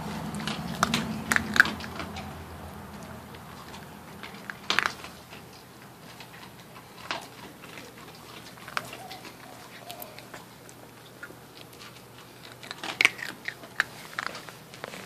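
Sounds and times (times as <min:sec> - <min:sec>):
puppy crunching dry kibble: 0:00.0 - 0:15.0.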